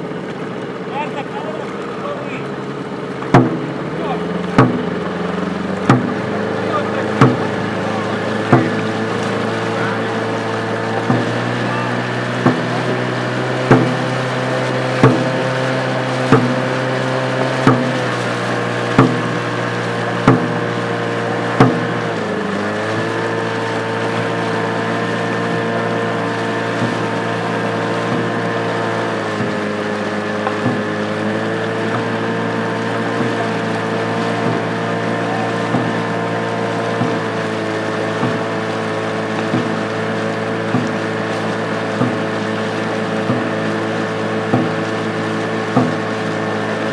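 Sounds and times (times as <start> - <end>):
motorboat engine running: 0.0 - 46.9
sharp knocks of paddle strokes: 3.2 - 46.9.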